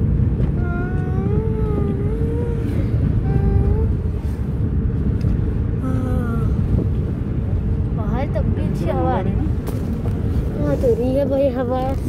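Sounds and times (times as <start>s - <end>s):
road and wind noise in car: 0.0s - 12.0s.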